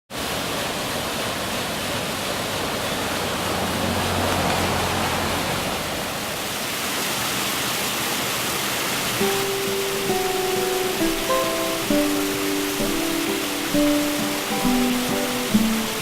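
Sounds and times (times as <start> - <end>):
brook water rushing over falls: 0.1 - 16.0.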